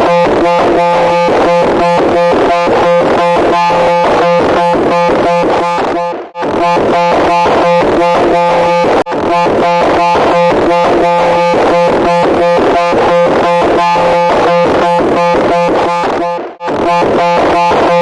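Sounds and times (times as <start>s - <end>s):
harsh electronic buzzing tone: 0.0s - 18.0s.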